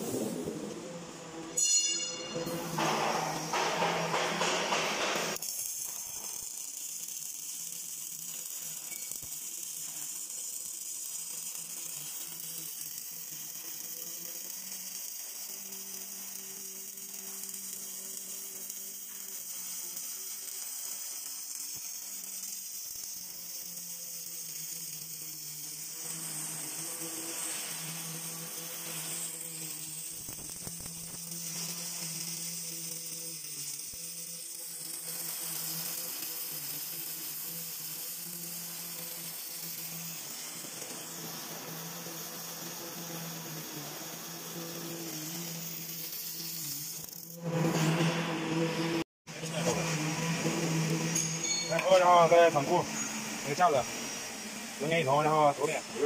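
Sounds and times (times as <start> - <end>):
arc welding crackling hiss: 0.0 - 56.0.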